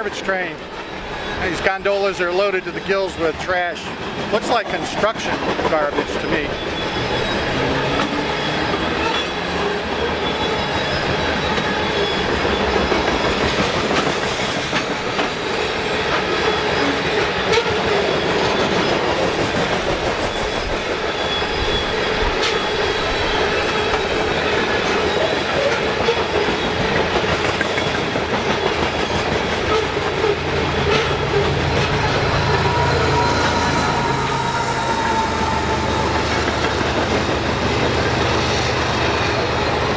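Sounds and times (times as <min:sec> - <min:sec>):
train wheels rumbling: 0:00.0 - 0:39.9
wheels clacking over rail joints: 0:00.0 - 0:39.9
wheels squealing: 0:00.1 - 0:39.9.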